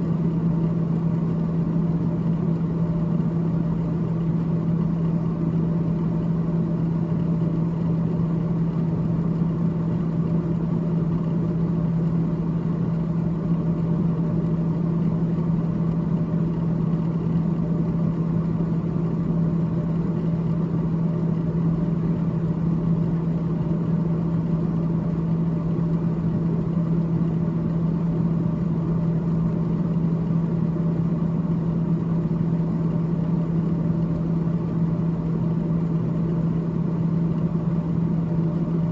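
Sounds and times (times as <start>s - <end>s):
refrigerator fan humming: 0.0s - 38.9s.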